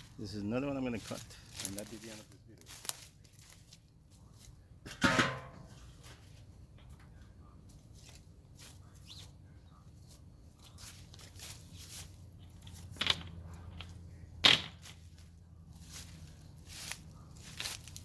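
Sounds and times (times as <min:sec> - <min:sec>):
faint rustling and handling: 0:00.0 - 0:04.6, 0:05.6 - 0:18.0.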